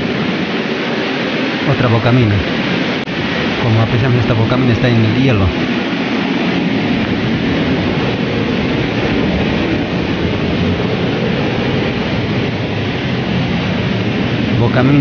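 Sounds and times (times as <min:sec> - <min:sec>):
ventilation fan rushing air: 0:00.0 - 0:15.0.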